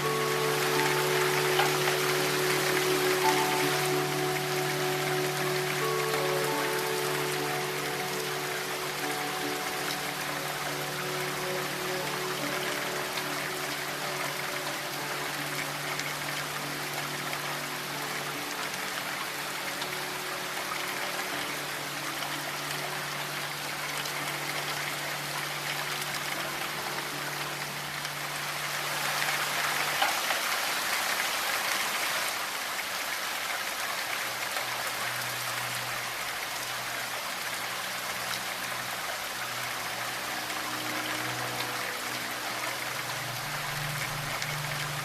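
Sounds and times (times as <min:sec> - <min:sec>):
low synth tones: 0:00.0 - 0:29.0, 0:34.7 - 0:45.0
steady rain falling: 0:00.0 - 0:45.0.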